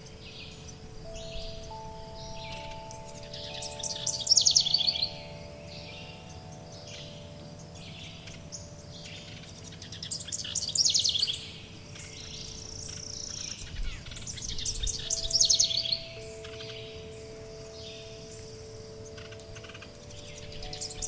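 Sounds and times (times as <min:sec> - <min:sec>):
bird songs of rapid notes: 0:00.0 - 0:21.0
faint steady tones: 0:00.0 - 0:21.0
songbirds chipping: 0:00.0 - 0:21.0.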